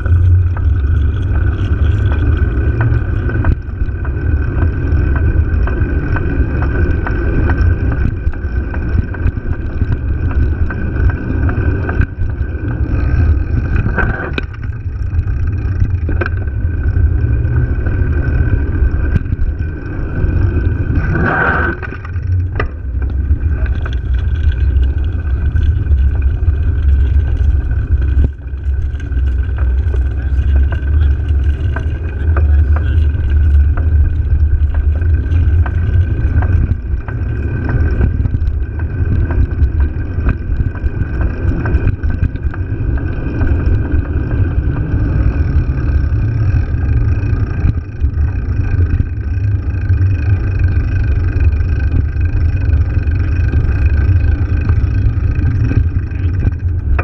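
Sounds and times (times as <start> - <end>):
bike clicks and rattles: 0.0 - 57.0
tyre rumble on asphalt: 0.0 - 57.0
wind buffeting microphone: 0.0 - 57.0.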